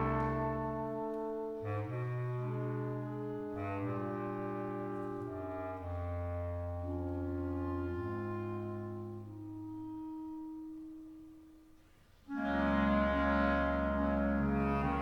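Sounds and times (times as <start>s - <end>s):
clarinet choir playing chords: 0.0s - 11.4s, 12.3s - 15.0s.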